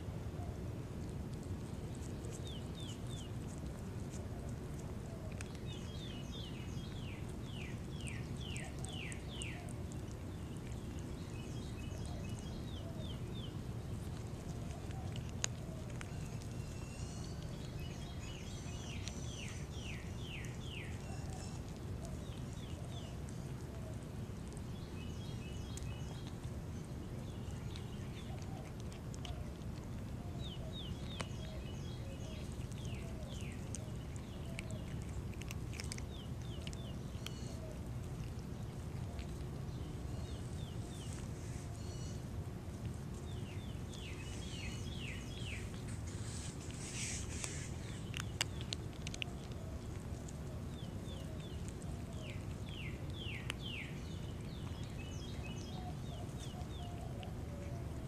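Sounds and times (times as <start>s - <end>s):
low outdoor rumble: 0.0s - 58.0s
small birds chirping: 0.0s - 58.0s.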